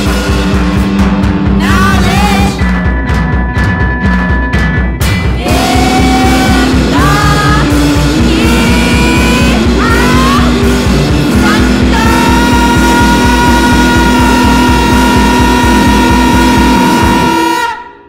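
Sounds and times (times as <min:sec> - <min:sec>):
noise-rock band playing: 0:00.0 - 0:18.0.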